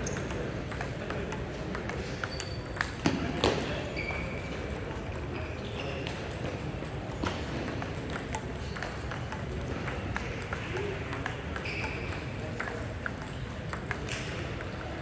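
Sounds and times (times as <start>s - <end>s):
table tennis ball clicking: 0.0s - 3.2s, 6.1s - 15.0s
hubbub of voices: 0.0s - 15.0s.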